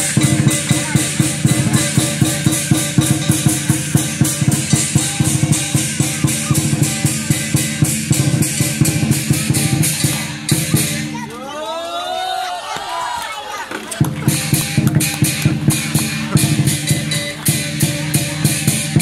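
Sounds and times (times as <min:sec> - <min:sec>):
large drum beating: 0:00.0 - 0:11.2, 0:14.0 - 0:19.0
cymbals clashing: 0:00.0 - 0:11.3, 0:14.0 - 0:19.0.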